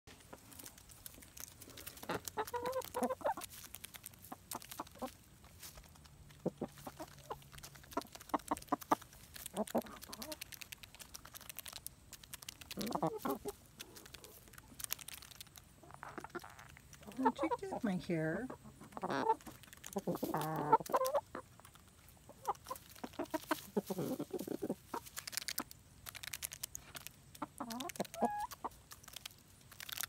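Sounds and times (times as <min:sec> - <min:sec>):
beaks pecking at seeds: 0:00.1 - 0:18.0, 0:18.8 - 0:30.0
hens clucking: 0:00.2 - 0:30.0.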